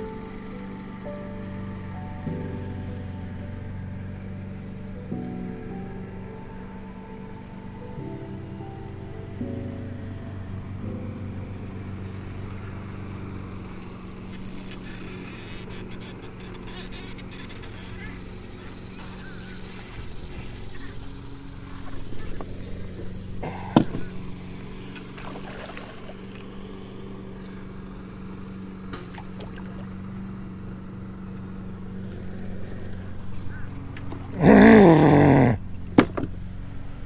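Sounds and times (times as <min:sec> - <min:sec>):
electric motor hum: 0:00.0 - 0:37.0.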